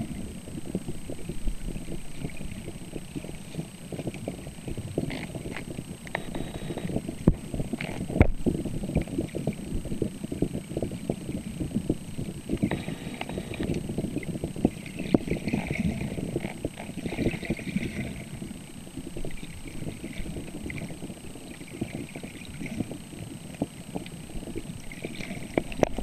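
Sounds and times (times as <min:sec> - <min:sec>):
muffled underwater sloshing: 0:00.0 - 0:26.0.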